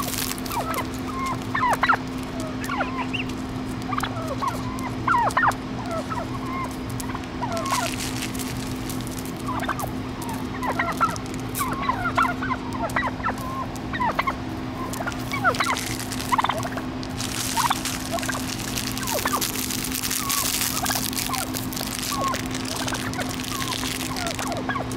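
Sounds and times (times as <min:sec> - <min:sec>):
wild turkeys squeaky calls: 0:00.0 - 0:24.9.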